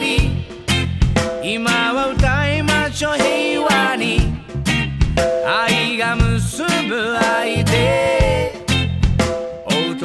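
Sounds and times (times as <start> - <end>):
person singing over drums and bass: 0.0 - 10.0.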